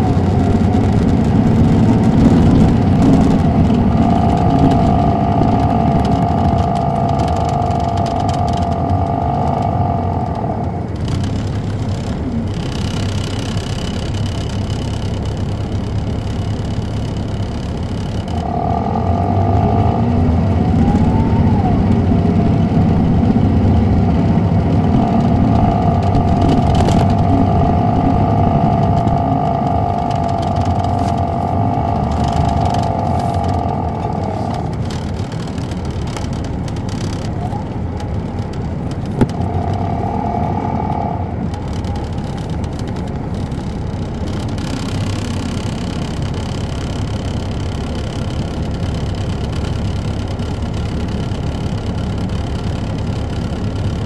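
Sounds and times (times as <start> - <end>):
bus diesel engine under load: 0.0 - 54.0
high transmission whine: 0.0 - 54.0.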